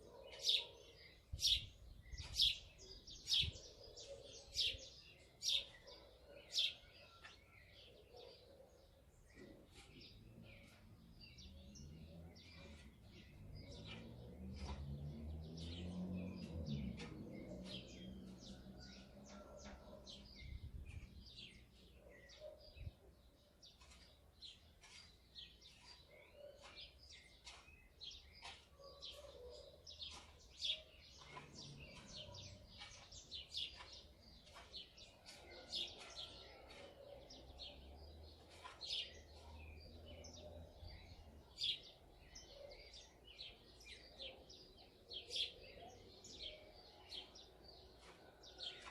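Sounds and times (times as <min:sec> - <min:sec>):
sparrows chirping: 0:00.0 - 0:48.9.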